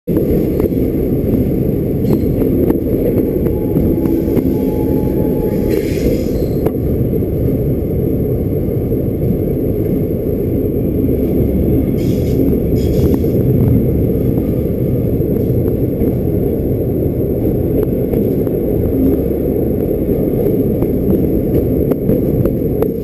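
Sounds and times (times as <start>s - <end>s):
train wheels rumbling on rails: 0.1s - 23.0s.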